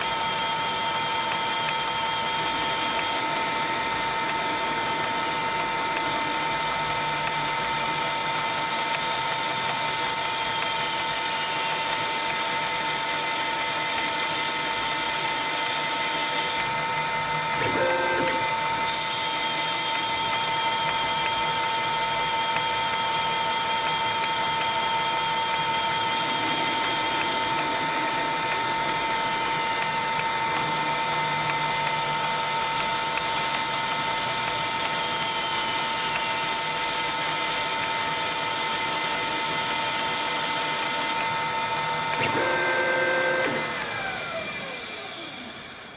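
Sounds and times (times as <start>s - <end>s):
lathe mechanical whine: 0.0s - 45.9s.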